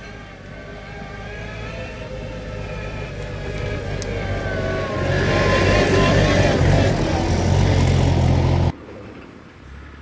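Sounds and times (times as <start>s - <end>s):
wavering whine: 0.0s - 8.7s
wheel loader diesel engine: 0.0s - 8.8s.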